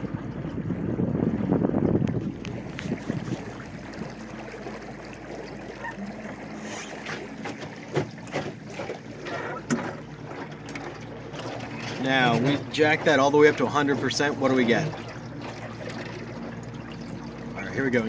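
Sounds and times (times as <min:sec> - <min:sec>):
trolling motor humming: 0:00.0 - 0:18.0
water lapping along hull: 0:00.0 - 0:18.0.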